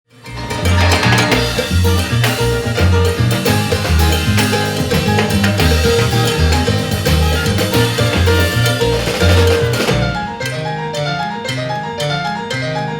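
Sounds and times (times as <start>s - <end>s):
salsa band playing: 0.1s - 12.9s.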